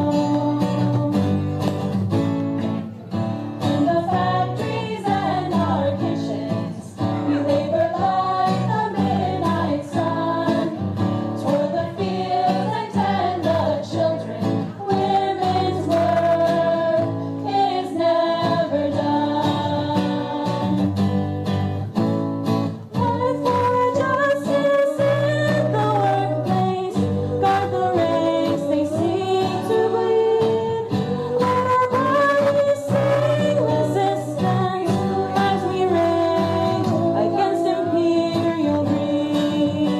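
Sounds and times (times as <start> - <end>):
guitar accompaniment: 0.0 - 39.9
voices singing a hymn: 3.6 - 21.0, 23.0 - 39.9.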